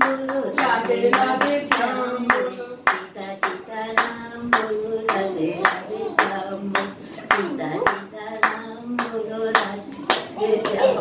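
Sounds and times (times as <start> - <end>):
hand claps in steady beat: 0.0 - 10.8
person singing: 0.0 - 11.0.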